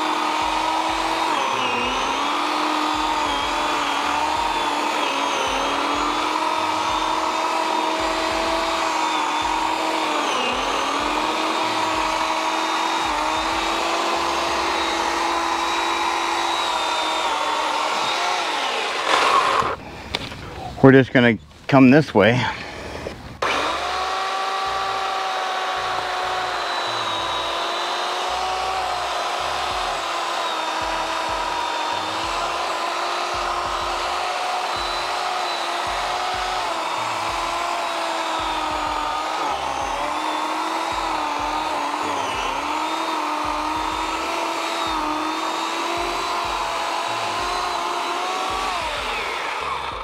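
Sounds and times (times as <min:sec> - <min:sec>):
electric chainsaw cutting wood: 0:00.0 - 0:20.4, 0:22.7 - 0:50.0.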